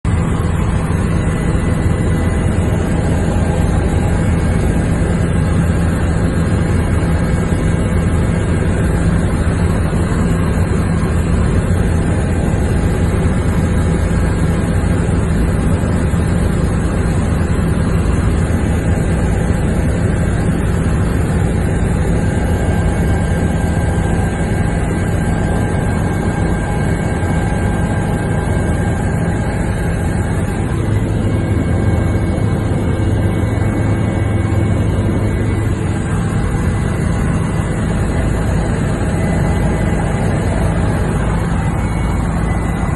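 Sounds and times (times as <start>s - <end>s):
aircraft engine and rotor hum: 0.0s - 42.9s.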